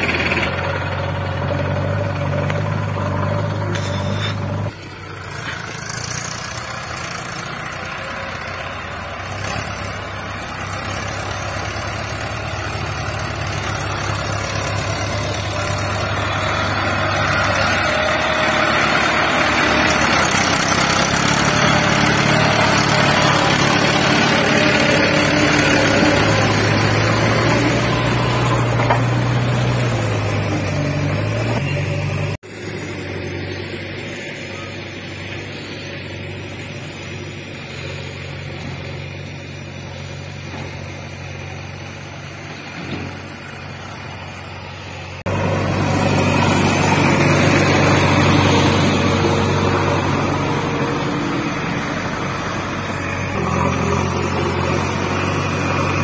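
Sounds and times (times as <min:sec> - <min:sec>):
tractor engine running under load: 0:00.0 - 0:56.0
trailer unloading soil: 0:00.0 - 0:56.0.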